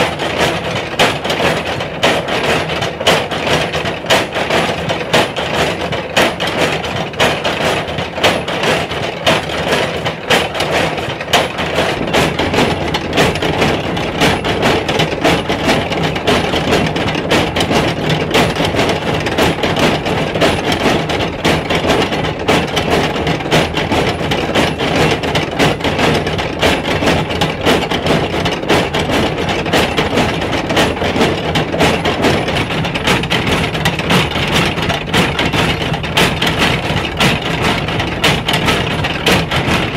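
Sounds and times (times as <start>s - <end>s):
pestles stamping rhythmic knocks: 0.0s - 39.9s.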